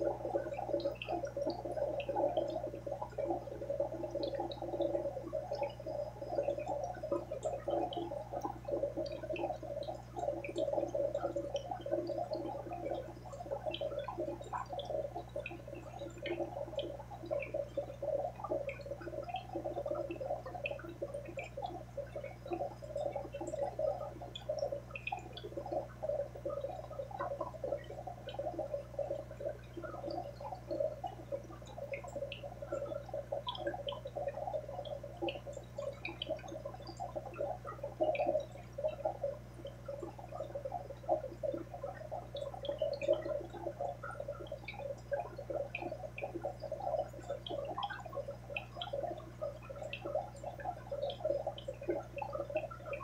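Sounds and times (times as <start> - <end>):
aquarium water bubbling: 0.0 - 53.0.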